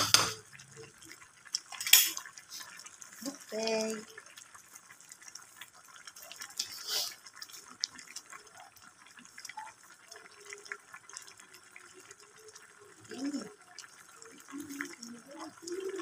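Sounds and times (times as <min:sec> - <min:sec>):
soup boiling and bubbling: 0:00.0 - 0:16.0.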